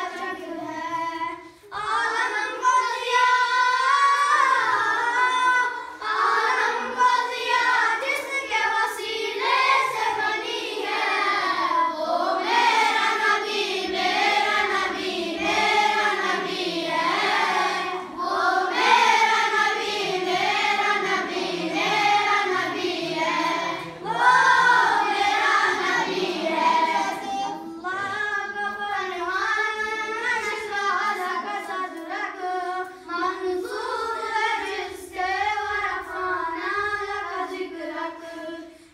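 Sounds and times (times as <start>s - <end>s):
boy singing unaccompanied: 0.0s - 16.5s, 18.3s - 38.8s.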